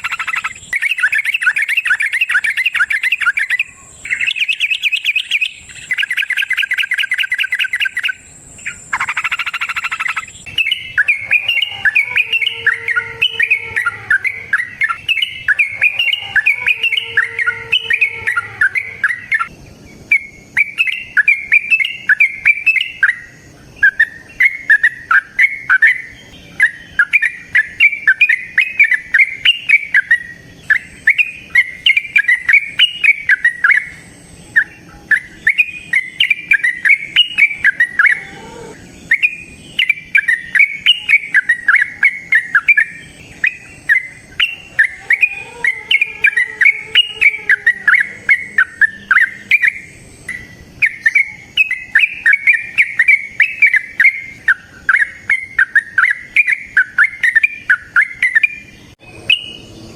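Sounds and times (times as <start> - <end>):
bird singing chattering notes: 0.0 - 59.9.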